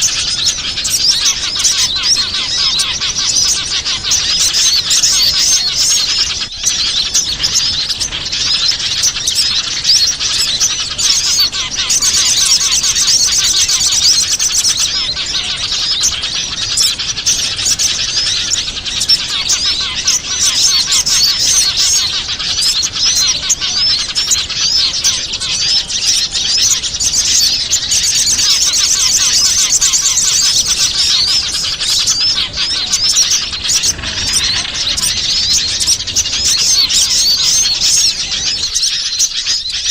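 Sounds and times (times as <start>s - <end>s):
rapid high bird trills: 0.0s - 39.9s
small birds chirping and twittering: 0.0s - 39.9s.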